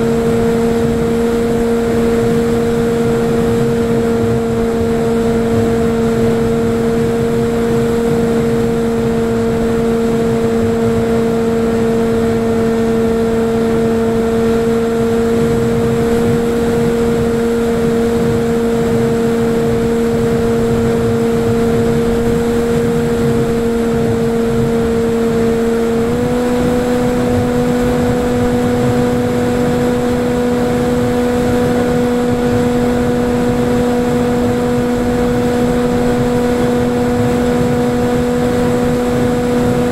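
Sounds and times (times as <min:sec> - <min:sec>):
electric motor and propeller hum: 0:00.0 - 0:39.9
wind rush: 0:00.0 - 0:39.9.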